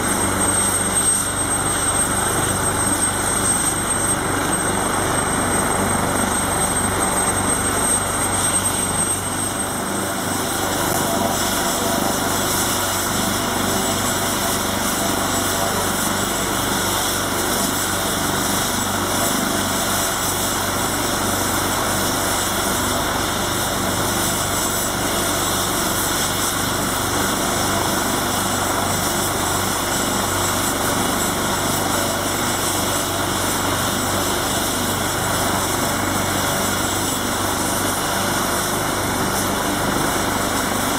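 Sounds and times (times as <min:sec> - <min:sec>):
helicopter turbine whine and rotor: 0:00.0 - 0:40.9.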